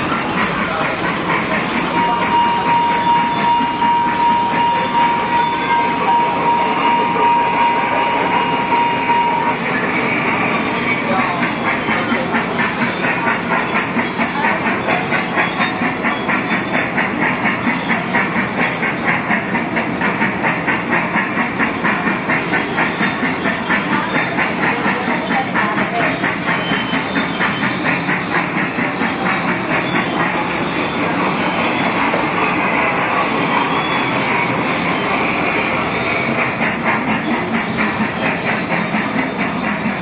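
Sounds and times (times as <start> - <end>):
ride-on train rhythmic clatter: 0.0 - 40.0.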